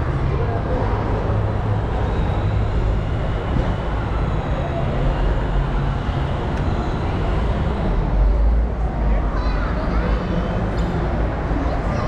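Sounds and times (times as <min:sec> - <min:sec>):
murmur of distant voices: 0:00.0 - 0:12.0.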